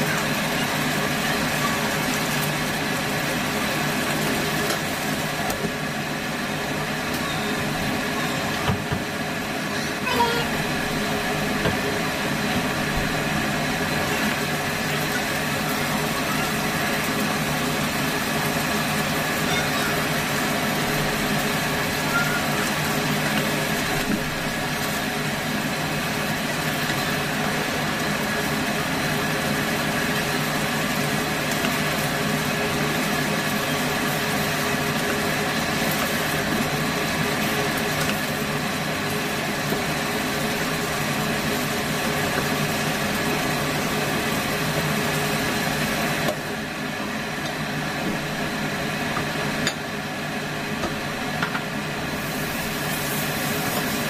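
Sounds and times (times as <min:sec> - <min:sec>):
food sizzling in a frying pan: 0:00.0 - 0:54.0
kitchen fan whirring hum: 0:00.0 - 0:54.0.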